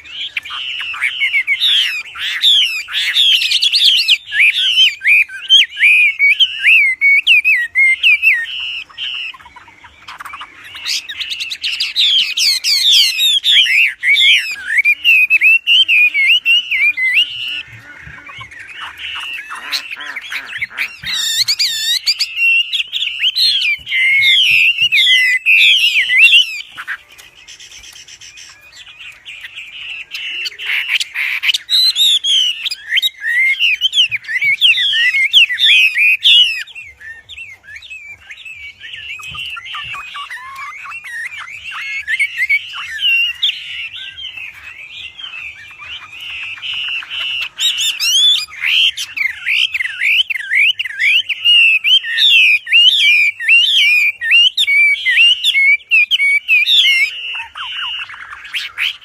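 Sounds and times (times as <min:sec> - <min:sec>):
songbird singing whistled notes: 0:00.0 - 0:59.0.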